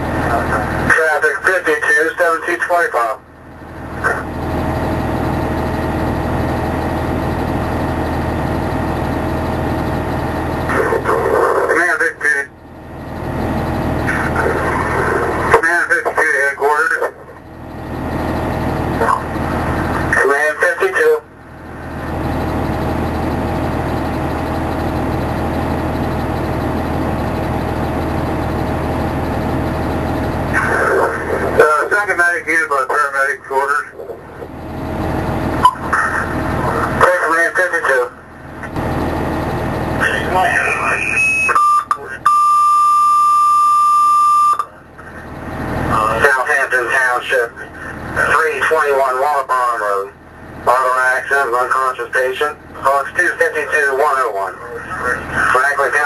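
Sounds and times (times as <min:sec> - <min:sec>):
fire engine idling hum: 0:00.0 - 0:56.0.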